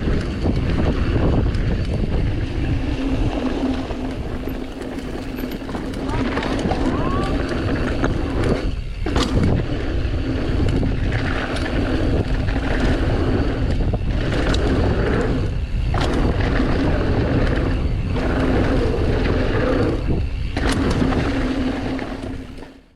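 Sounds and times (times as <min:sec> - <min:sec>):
wind and tyre noise: 0:00.0 - 0:22.9.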